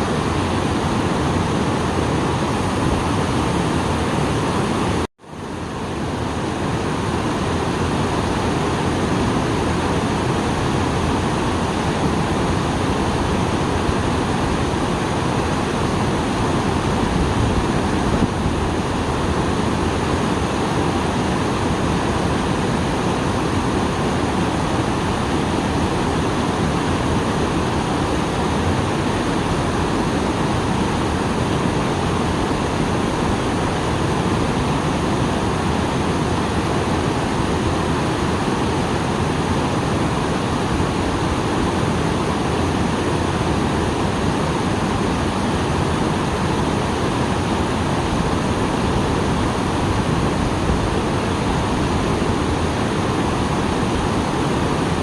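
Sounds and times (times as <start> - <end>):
water rushing over small waterfall: 0.0 - 55.0.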